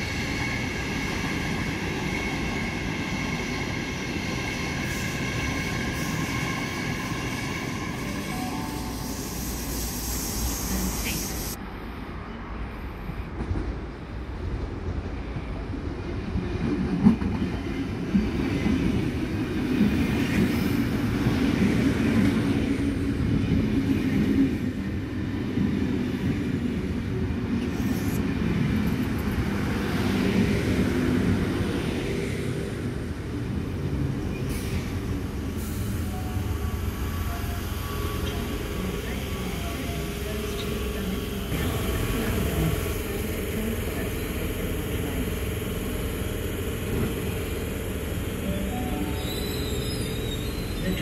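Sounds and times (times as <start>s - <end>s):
train wheels rumbling on rails: 0.0s - 11.6s, 12.8s - 51.0s.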